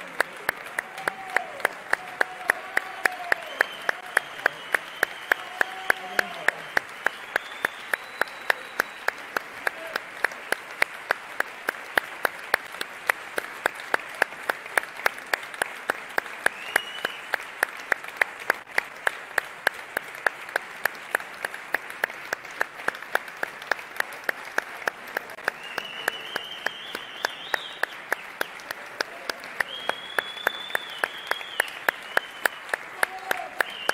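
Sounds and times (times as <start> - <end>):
audience clapping in unison: 0.0 - 33.9
general applause: 0.0 - 33.9.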